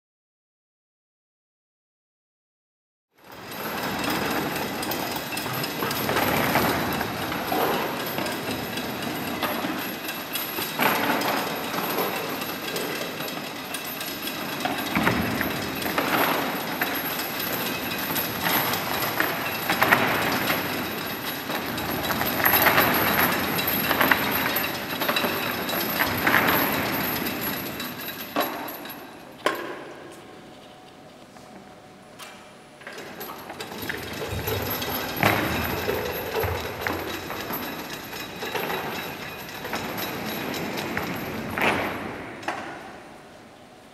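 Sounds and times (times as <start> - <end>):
heavy chains rattling: 3.2 - 31.0, 32.8 - 43.1.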